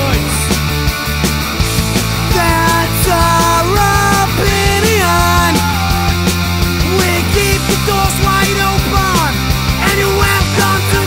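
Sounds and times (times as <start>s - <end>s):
punk rock band playing: 0.0s - 11.0s
steady drum hits: 0.6s - 11.0s.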